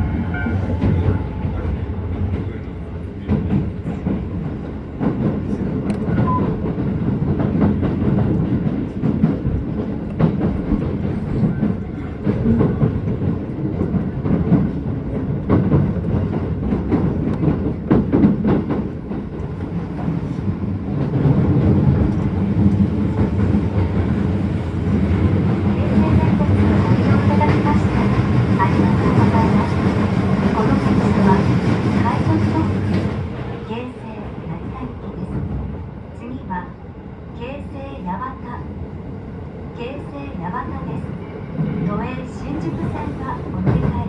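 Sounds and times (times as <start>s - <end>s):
train wheels rumbling on track: 0.0s - 44.0s.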